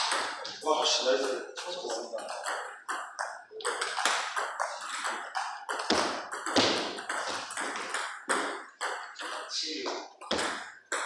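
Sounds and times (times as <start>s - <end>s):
table tennis balls bouncing on tables: 0.0s - 11.0s
table tennis balls clicking off paddles: 0.0s - 11.0s.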